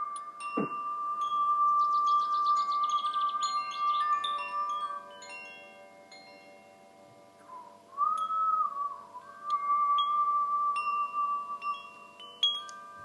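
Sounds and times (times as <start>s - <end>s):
steady high held tone: 0.0s - 13.0s
wind chimes ringing: 0.0s - 13.0s.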